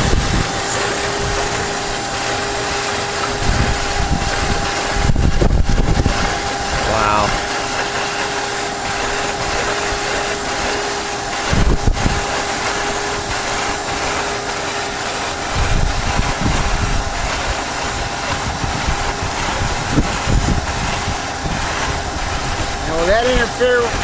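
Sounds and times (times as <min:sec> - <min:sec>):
shop vac whining motor: 0:00.0 - 0:24.0.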